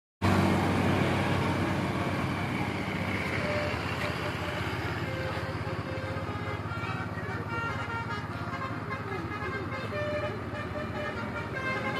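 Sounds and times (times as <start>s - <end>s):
bus diesel engine droning: 0.2s - 11.9s.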